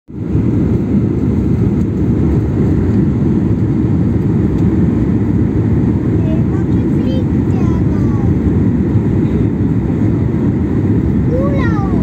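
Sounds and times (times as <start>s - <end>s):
jet engines roaring in cabin: 0.1s - 12.0s.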